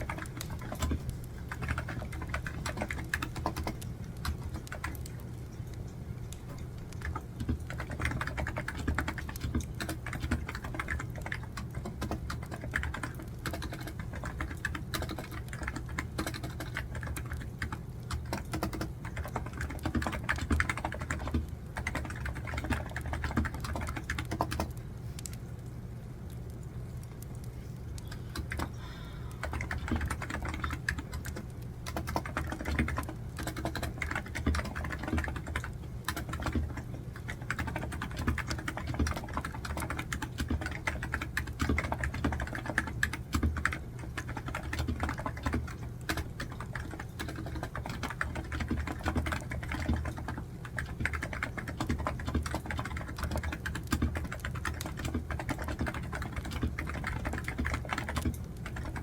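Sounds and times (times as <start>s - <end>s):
typing on computer keyboard: 0.0s - 25.4s, 28.0s - 59.0s.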